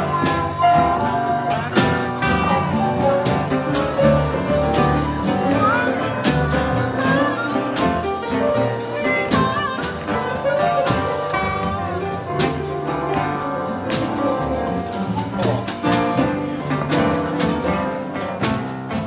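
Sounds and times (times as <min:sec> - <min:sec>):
sliding lead guitar line: 0:00.0 - 0:16.4
blues band playing: 0:00.0 - 0:19.0
drum strikes: 0:00.0 - 0:19.0.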